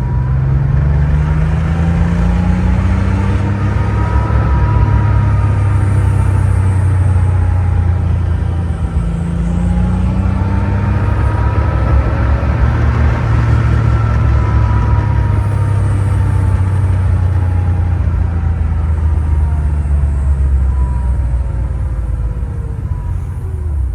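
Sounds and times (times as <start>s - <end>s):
car engine droning: 0.0s - 23.9s.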